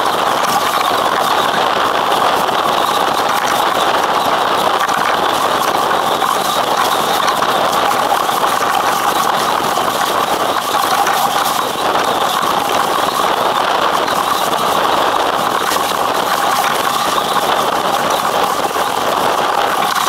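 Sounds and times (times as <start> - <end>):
rushing wind: 0.0 - 20.0.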